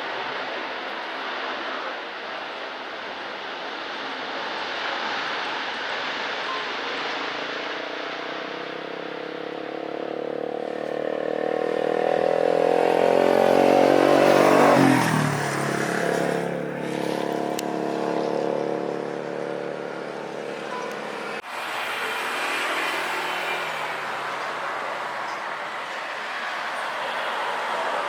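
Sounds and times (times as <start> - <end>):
vehicle engine passing by: 4.5 - 28.0.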